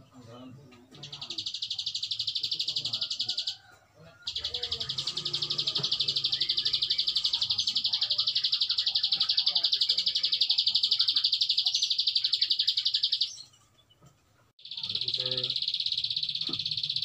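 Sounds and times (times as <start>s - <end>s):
bird singing rapid trill: 0.0s - 14.0s, 14.6s - 17.0s.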